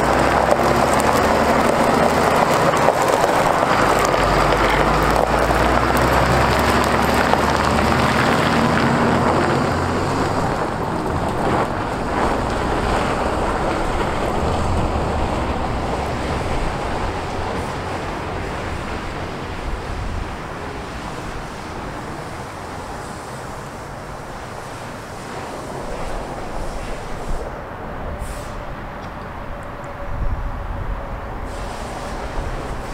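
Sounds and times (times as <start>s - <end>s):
diesel truck engine: 0.0s - 32.9s
tyres rushing on gravel: 0.0s - 32.9s.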